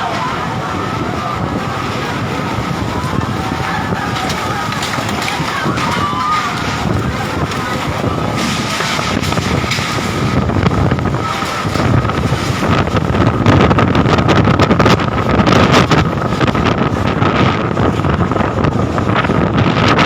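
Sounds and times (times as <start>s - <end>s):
gusting wind buffeting microphone: 0.0s - 20.0s
short crackles and rattles: 0.0s - 20.0s.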